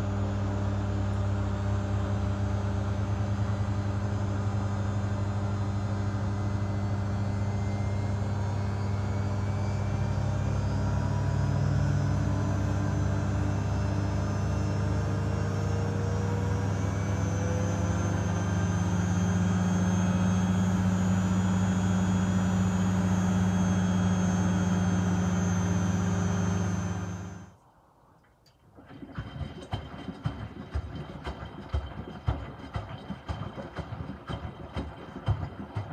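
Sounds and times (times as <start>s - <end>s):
washing machine spinning: 0.0s - 27.5s, 28.8s - 35.9s.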